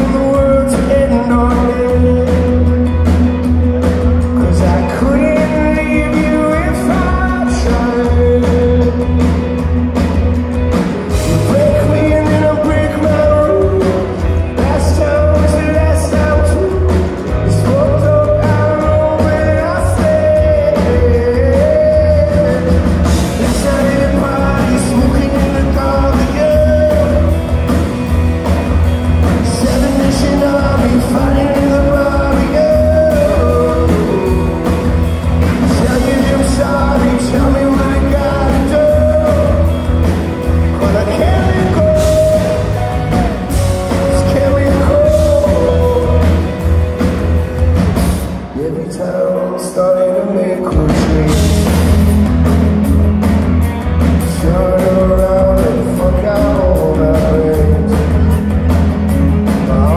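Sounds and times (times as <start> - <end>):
man singing: 0.0 - 9.6, 11.1 - 27.8, 29.0 - 47.6, 48.3 - 52.2, 54.2 - 58.8, 59.5 - 59.9
rock band playing: 0.0 - 59.9.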